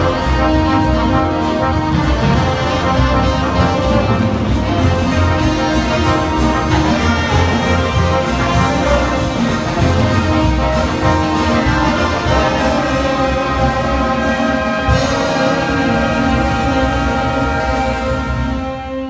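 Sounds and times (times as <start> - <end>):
steady beat: 0.0 - 18.7
saxophones: 0.0 - 19.0
trombones: 0.0 - 19.0
trumpets: 0.0 - 19.0.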